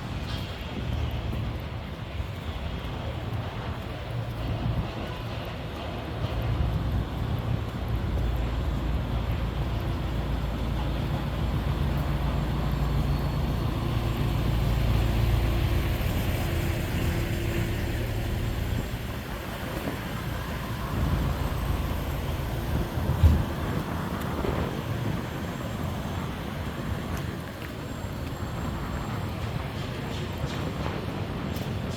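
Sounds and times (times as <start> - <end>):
city street traffic: 0.0 - 31.9
heavy vehicle engine rumbling: 6.2 - 31.9.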